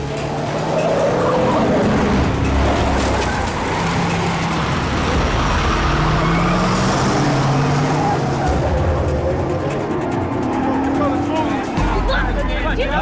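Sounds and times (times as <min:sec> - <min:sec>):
car engines running hard: 0:00.0 - 0:13.0
road and traffic noise: 0:00.0 - 0:13.0.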